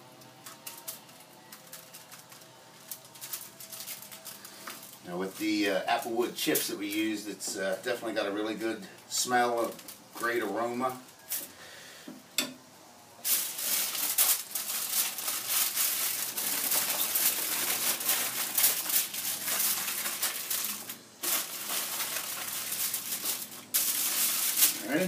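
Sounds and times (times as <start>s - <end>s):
aluminium foil crinkling: 0.0s - 11.5s, 13.2s - 25.0s.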